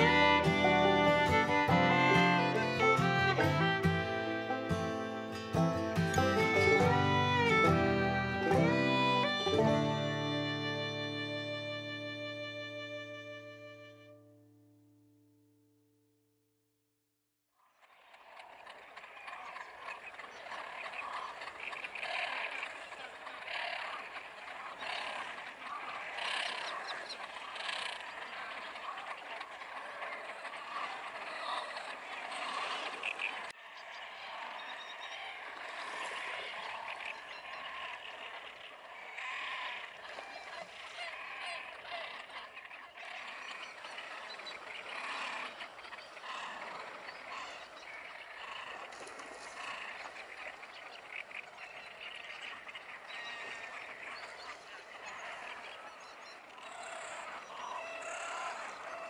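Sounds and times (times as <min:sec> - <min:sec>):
chorus of birds calling: 0:00.0 - 0:13.9, 0:18.1 - 0:59.0.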